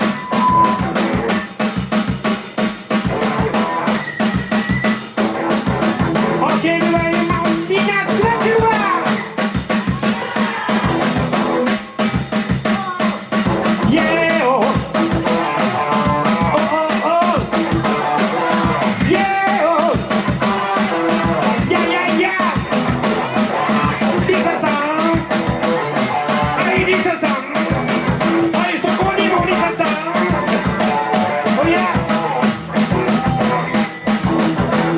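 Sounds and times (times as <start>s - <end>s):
melodic lead line: 0.0s - 10.2s, 10.9s - 34.9s
bass guitar: 0.0s - 34.9s
drum kit beat: 0.0s - 34.9s.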